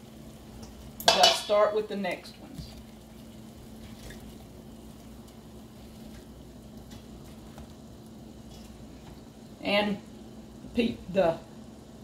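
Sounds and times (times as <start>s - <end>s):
steady low hum: 0.0s - 12.0s
water boiling in a pot: 0.0s - 12.0s.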